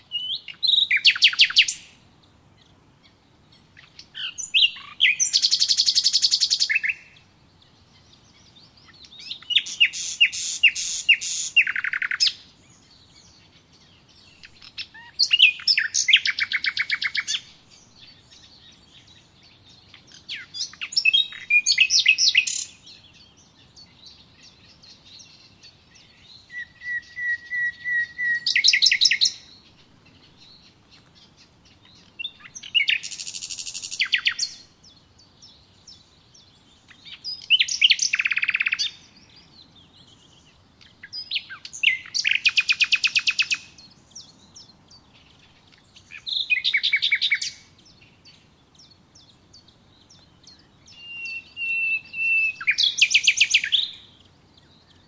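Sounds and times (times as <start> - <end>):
songbird singing with trills: 0.0 - 55.0.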